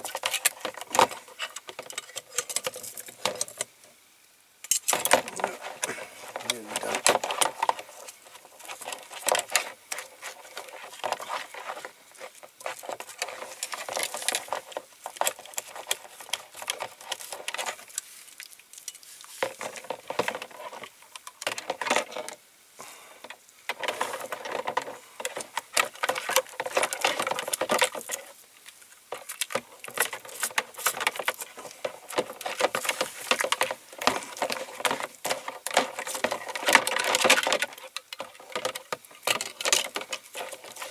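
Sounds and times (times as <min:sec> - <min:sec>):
small clicks and rattles: 0:00.0 - 0:03.7, 0:04.6 - 0:22.4, 0:23.2 - 0:40.9.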